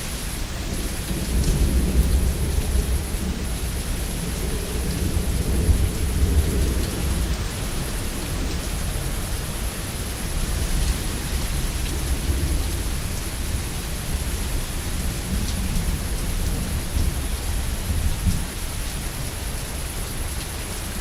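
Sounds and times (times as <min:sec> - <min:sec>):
thunder rumbling: 0:00.0 - 0:19.6
heavy rain hissing: 0:00.0 - 0:21.0.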